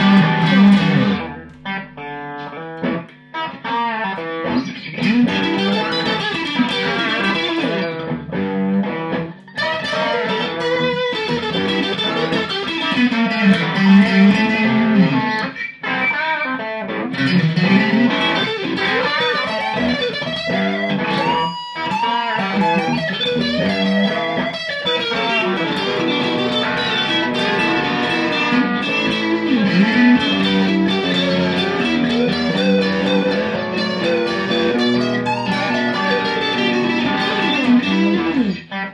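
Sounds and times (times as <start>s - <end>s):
looped guitar rhythm part: 0.0s - 38.9s
overdriven electric guitar lead: 0.0s - 38.9s.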